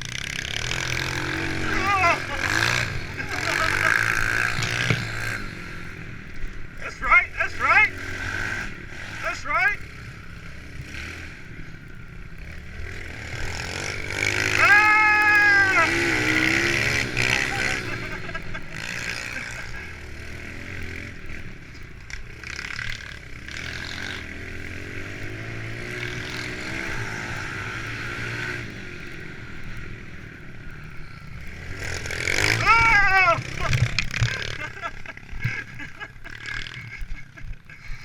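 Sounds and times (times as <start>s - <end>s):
pit bike engines revving: 0.0s - 38.0s.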